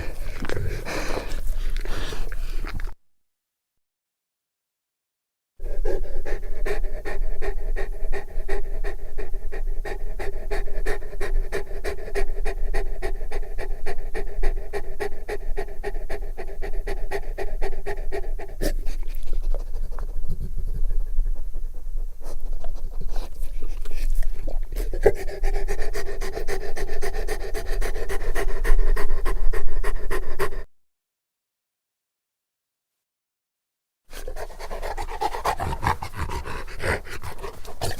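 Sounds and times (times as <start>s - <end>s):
dog panting heavily: 0.0s - 2.9s, 5.6s - 30.7s, 34.1s - 37.9s.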